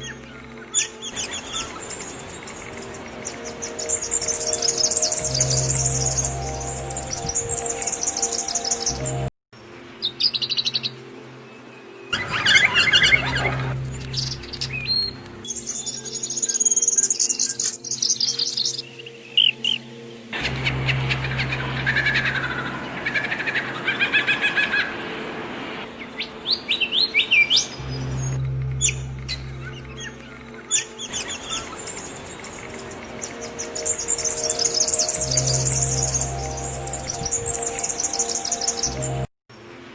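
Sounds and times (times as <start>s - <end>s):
songbirds chirping and trilling: 0.0s - 39.3s.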